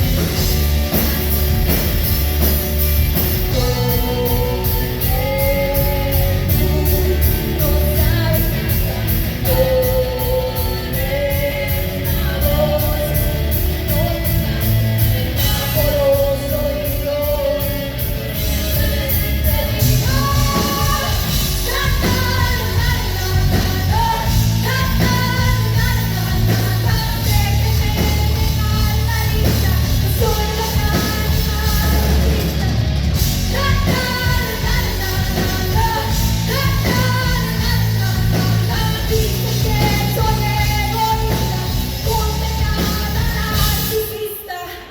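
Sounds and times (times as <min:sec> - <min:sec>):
bass guitar: 0:00.0 - 0:44.1
electric guitar: 0:00.0 - 0:44.2
drums: 0:00.0 - 0:44.9
woman singing lead vocal: 0:00.0 - 0:44.9.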